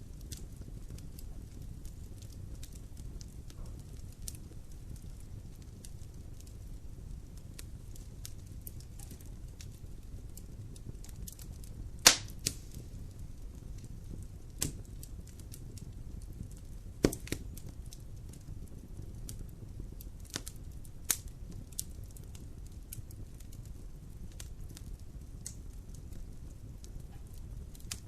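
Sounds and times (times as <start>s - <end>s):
fire crackles and pops: 0.0s - 28.0s
fire flames rumbling: 0.0s - 28.0s.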